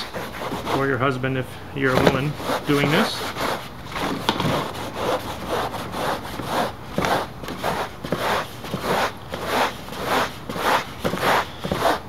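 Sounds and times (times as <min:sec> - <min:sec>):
rasp scraping foam: 0:00.0 - 0:01.2, 0:01.9 - 0:12.0.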